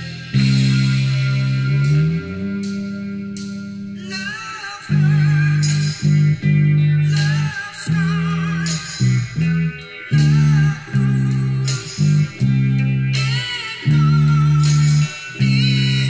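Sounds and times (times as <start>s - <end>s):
electric bass guitar: 0.0s - 16.0s
higher wavering melody: 0.0s - 16.0s.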